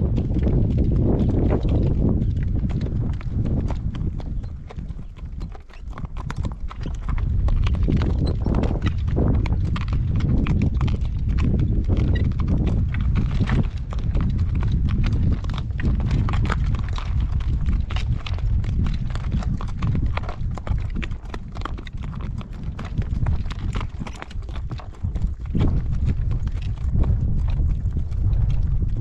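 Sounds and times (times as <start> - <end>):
horse hooves clip-clopping: 0.0 - 29.0
wind buffeting microphone: 0.0 - 29.0.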